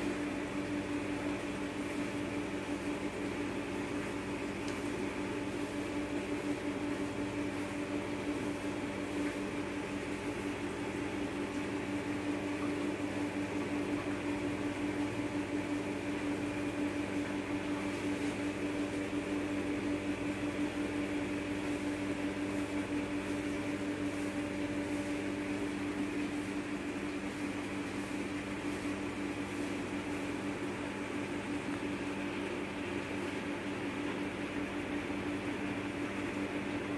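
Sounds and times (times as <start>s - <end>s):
steady machine hum: 0.0s - 36.9s.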